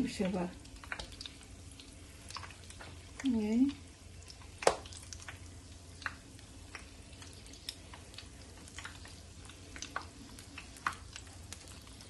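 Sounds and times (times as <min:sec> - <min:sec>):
low steady hum: 0:00.0 - 0:12.0
oil crackling and popping: 0:00.0 - 0:12.0.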